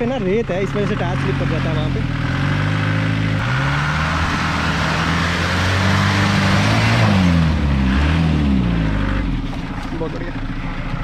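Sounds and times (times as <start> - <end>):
diesel engine pulling hard: 0.0 - 11.0.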